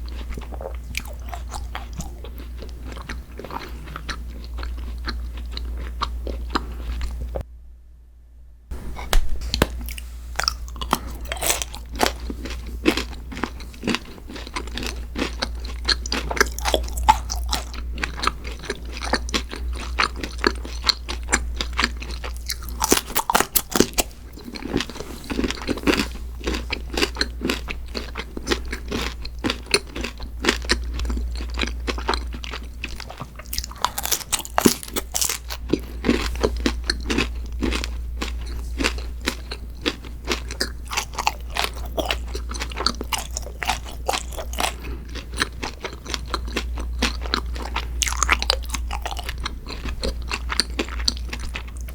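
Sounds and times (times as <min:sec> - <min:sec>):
person chewing crunchy food: 0:00.0 - 0:07.4, 0:08.7 - 0:51.9
low steady hum: 0:00.0 - 0:51.9.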